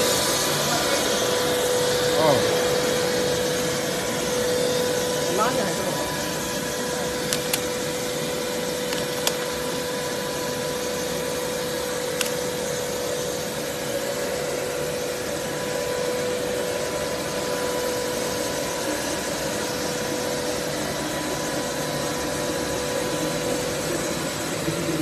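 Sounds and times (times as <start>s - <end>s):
constant high tone: 0.0s - 25.0s
machine whirring hum: 0.0s - 25.0s.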